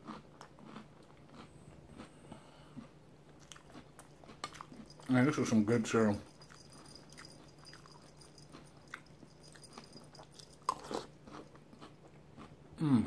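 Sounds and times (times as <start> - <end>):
person chewing cereal: 0.0 - 13.0.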